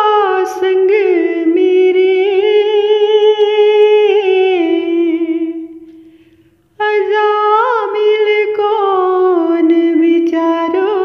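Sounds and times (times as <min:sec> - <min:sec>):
person singing devotional song: 0:00.0 - 0:11.0.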